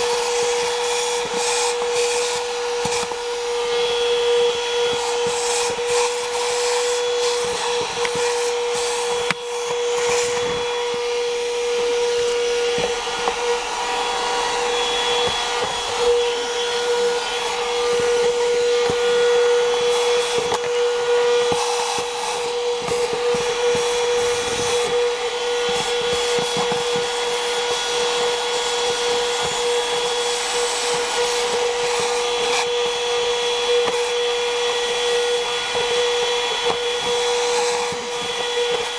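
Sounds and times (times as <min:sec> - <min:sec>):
handheld vacuum whining: 0:00.0 - 0:38.9.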